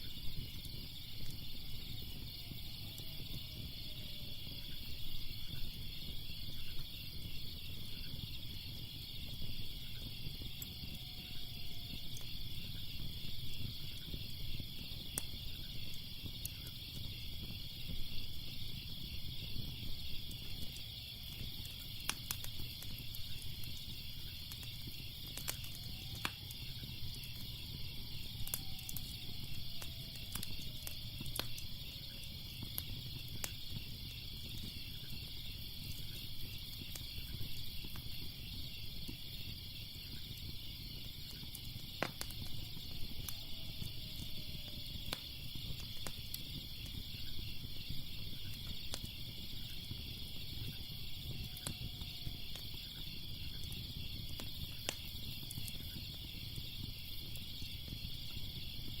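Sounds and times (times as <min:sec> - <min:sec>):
crickets chirping: 0:00.0 - 0:59.0
fire crackling and popping: 0:00.0 - 0:59.0.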